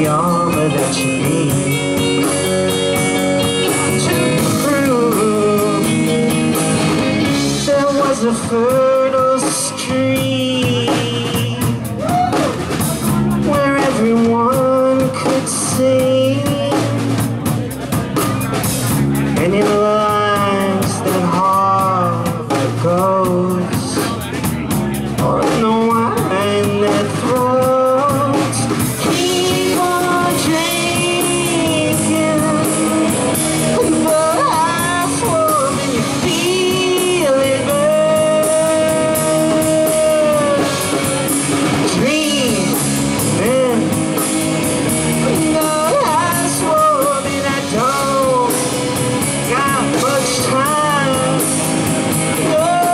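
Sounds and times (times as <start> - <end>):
bending lead guitar melody: 0.0 - 52.9
live rock band playing: 0.0 - 52.9.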